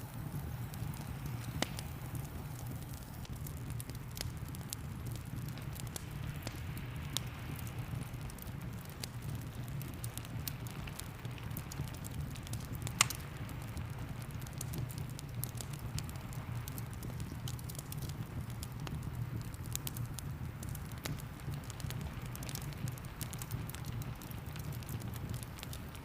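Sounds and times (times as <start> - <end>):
fire crackling and popping: 0.0 - 26.0
steady rain: 0.0 - 26.0.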